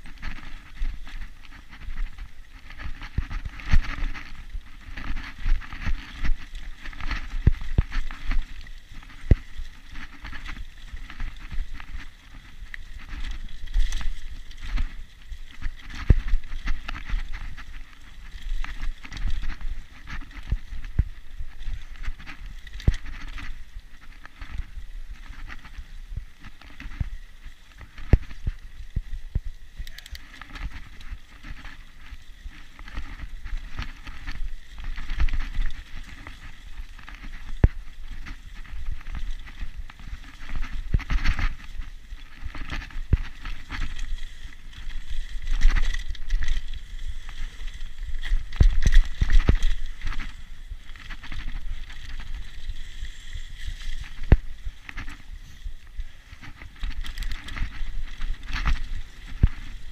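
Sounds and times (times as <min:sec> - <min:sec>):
bike rattling and knocking: 0:00.0 - 0:59.9
tyres running over dirt: 0:00.0 - 0:59.9.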